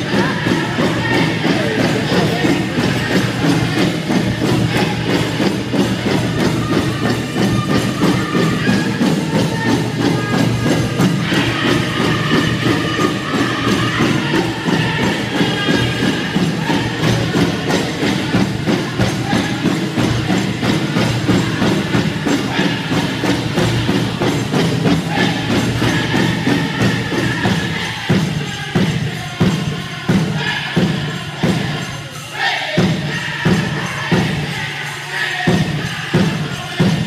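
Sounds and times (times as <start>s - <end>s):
big drum beat: 0.0s - 37.0s
group singing in chorus: 0.0s - 37.0s.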